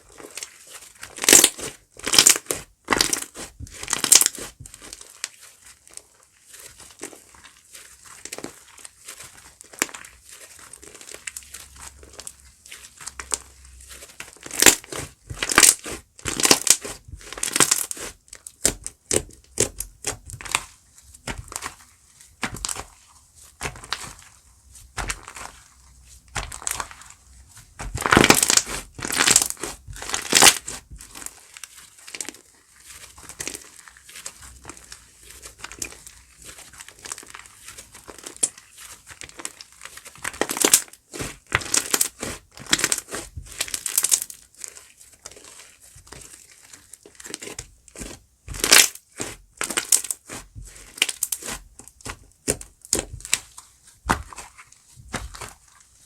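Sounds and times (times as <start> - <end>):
slime squished by hand: 0.1 - 56.0.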